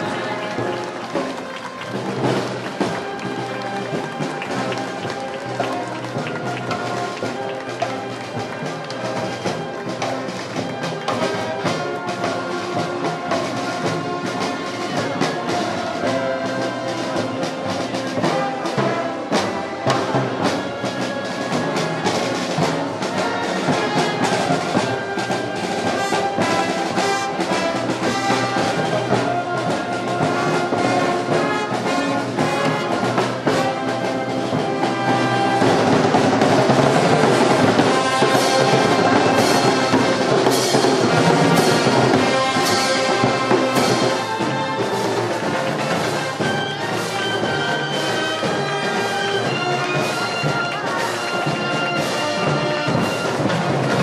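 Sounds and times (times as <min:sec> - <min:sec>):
brass band playing a march: 0:00.0 - 0:54.0.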